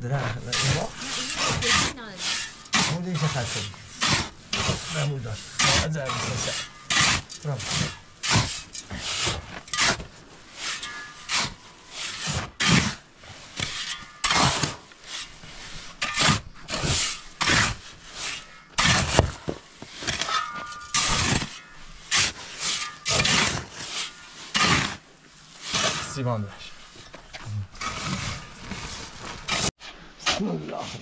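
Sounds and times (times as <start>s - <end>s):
shovels scraping sand and cement: 0.0s - 31.0s.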